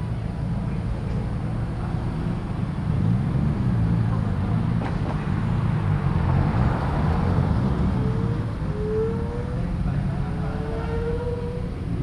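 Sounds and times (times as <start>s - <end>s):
car engines rumbling low: 0.0s - 12.0s.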